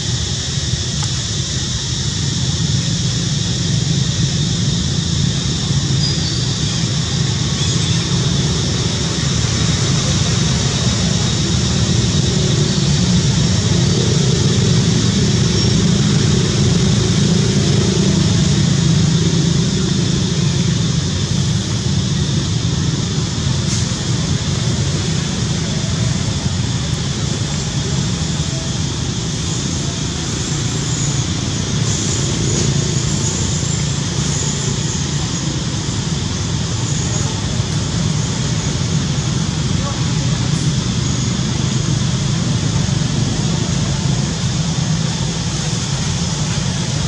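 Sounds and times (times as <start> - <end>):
constant low rumble: 0.0 - 47.0
high hiss: 0.0 - 47.0.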